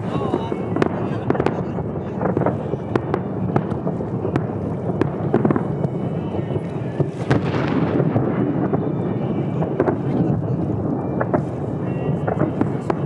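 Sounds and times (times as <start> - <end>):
fireworks sharp bangs: 0.0 - 13.0
fireworks shell bursts rumbling: 0.0 - 13.0.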